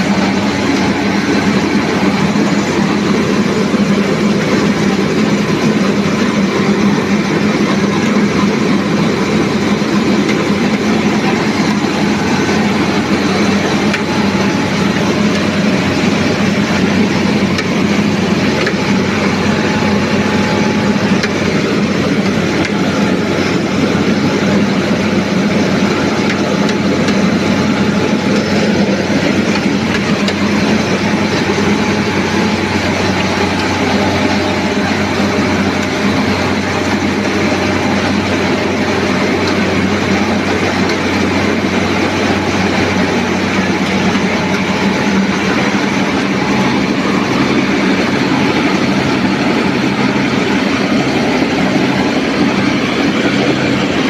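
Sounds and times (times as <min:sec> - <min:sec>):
rice milling machine droning: 0:00.0 - 0:54.0.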